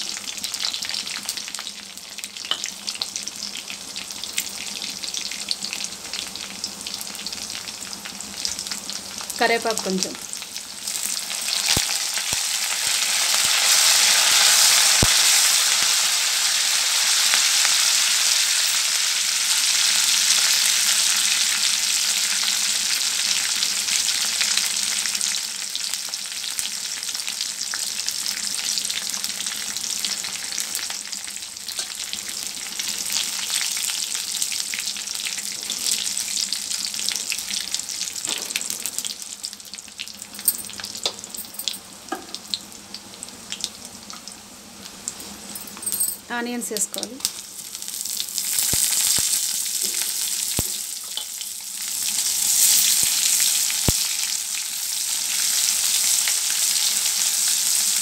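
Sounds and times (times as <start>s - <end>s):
leaves sizzling in hot oil: 0.0s - 45.6s, 46.3s - 58.0s.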